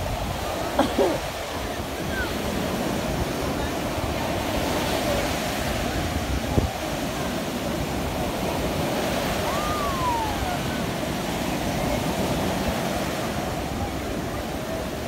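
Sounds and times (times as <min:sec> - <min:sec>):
surf breaking on a beach: 0:00.0 - 0:15.0.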